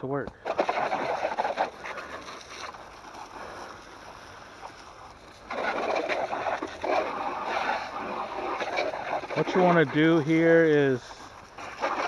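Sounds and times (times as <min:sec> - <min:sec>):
water spray hissing: 0:00.7 - 0:12.0.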